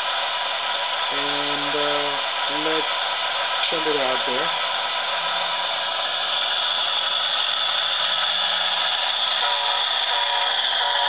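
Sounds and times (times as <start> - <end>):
model locomotive engine sound: 0.0 - 11.0.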